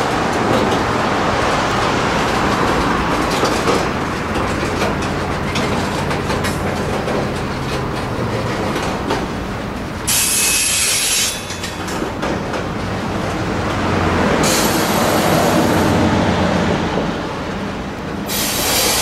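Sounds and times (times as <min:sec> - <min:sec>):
wheels clicking over rail joints: 0:00.0 - 0:16.0, 0:17.9 - 0:19.0
train wheels rumbling on rail: 0:00.0 - 0:19.0.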